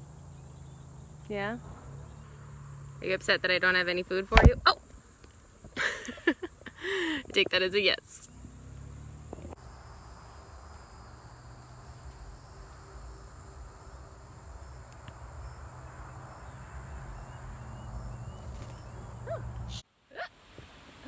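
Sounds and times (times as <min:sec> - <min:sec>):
high-pitched insect chorus: 0:00.0 - 0:19.8.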